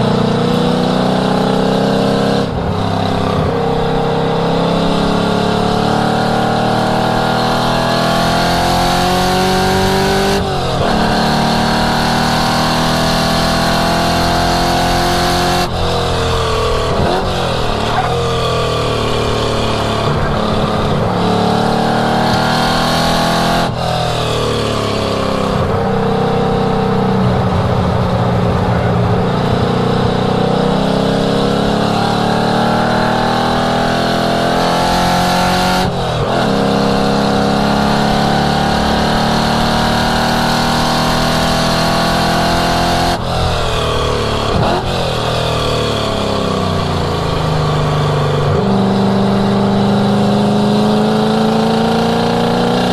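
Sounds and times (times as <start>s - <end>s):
race car engine at full throttle: 0.0s - 52.9s.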